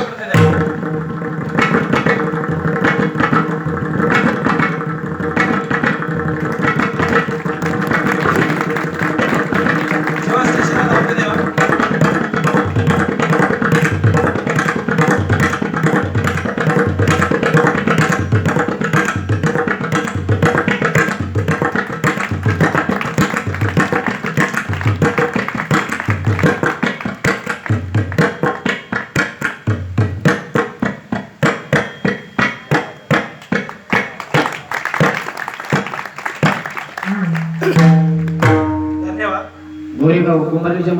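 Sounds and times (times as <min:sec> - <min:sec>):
fast drum strokes: 0:00.0 - 0:40.0.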